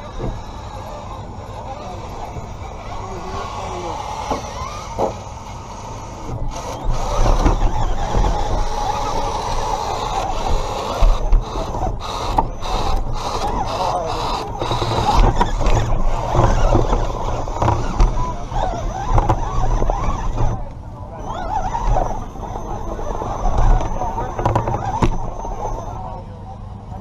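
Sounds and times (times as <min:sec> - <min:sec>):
toy truck drivetrain running: 0:00.0 - 0:26.2.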